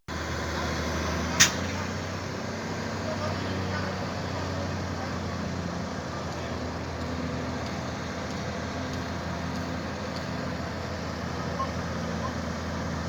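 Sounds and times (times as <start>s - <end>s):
drilling rig engine running: 0.1s - 13.0s.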